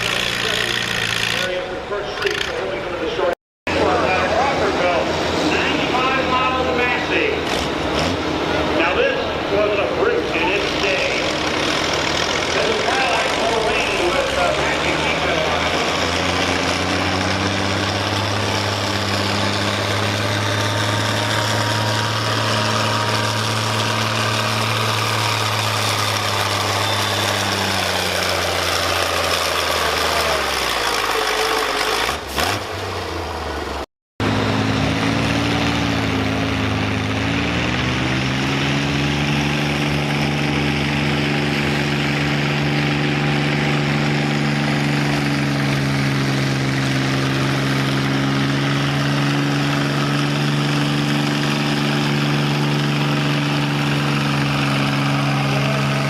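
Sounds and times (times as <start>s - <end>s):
second tractor engine running: 0.0s - 56.0s
tractor engine running: 0.0s - 56.0s.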